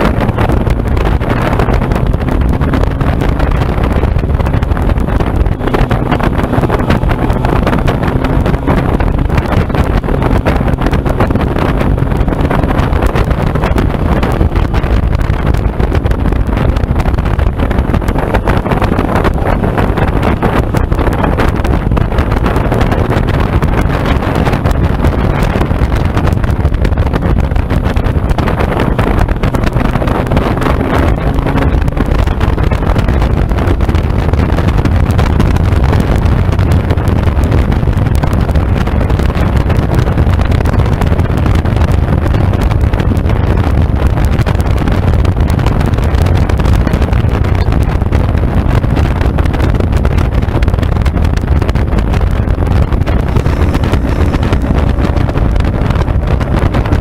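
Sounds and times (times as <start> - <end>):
motorcycle engine: 0.0 - 57.0
wind rumble on microphone: 0.0 - 57.0.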